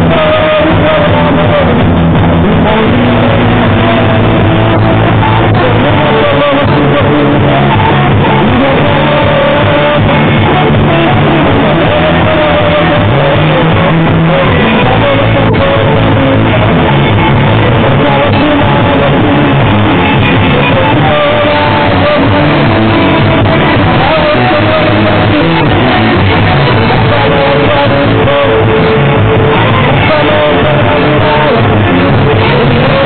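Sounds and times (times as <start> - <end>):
drum kit: 0.0 - 33.0
electric guitar: 0.0 - 33.0
rock band playing: 0.0 - 33.0.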